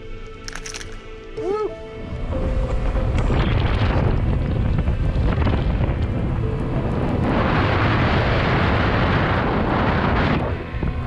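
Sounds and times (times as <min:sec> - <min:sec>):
wind noise: 0:02.0 - 0:11.0.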